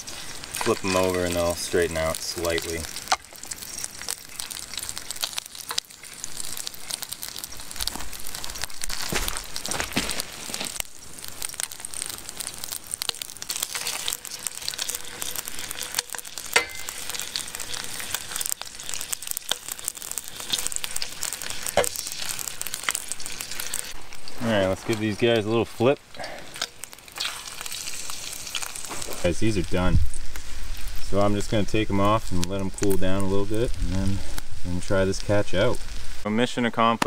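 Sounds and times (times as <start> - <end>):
fish sizzling in butter: 0.0 - 36.8.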